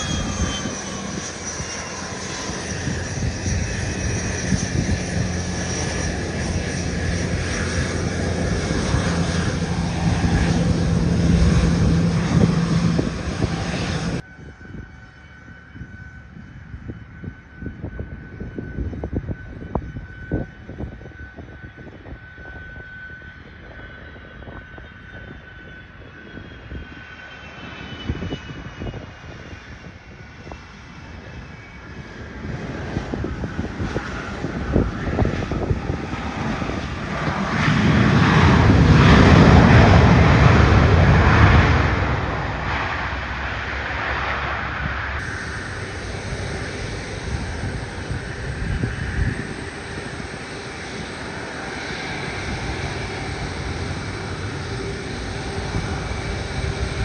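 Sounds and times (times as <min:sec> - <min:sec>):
jet engine whine on approach: 0:00.0 - 0:57.0
jet engines running loud: 0:00.0 - 0:57.0.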